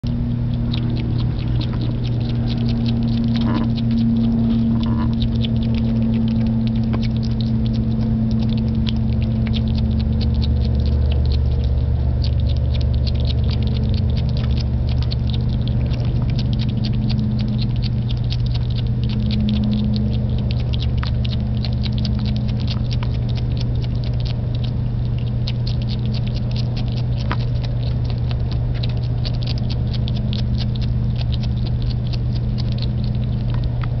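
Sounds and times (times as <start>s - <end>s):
animal chewing crunchily: 0.0s - 34.0s
steady low hum: 0.0s - 34.0s.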